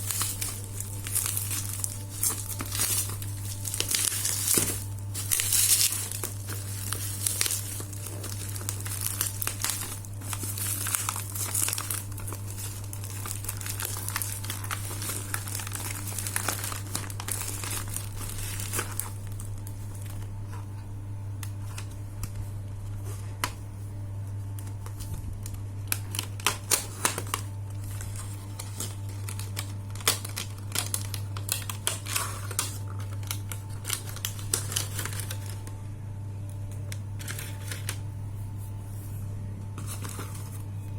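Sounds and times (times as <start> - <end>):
packaging crinkling: 0.0 - 23.6, 24.4 - 35.7, 36.7 - 38.1, 39.7 - 40.9.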